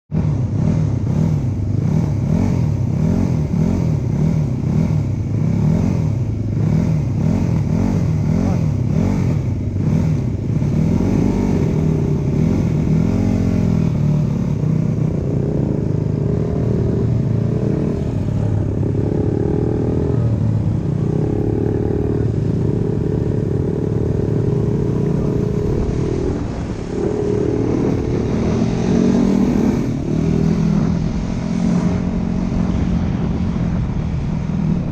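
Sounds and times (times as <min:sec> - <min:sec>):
dirt bike engine revving: 0:00.5 - 0:32.9.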